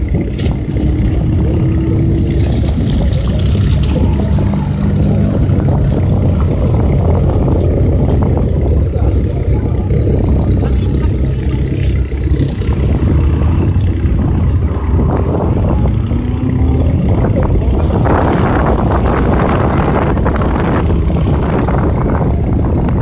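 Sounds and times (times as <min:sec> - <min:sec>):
rally car engine running loudly: 0:00.0 - 0:23.0.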